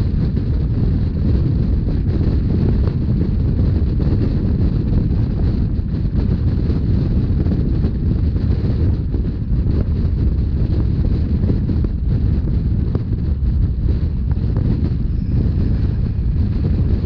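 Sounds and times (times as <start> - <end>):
train wheels rumbling on rails: 0.0 - 17.0
wind buffeting microphone: 0.0 - 17.0.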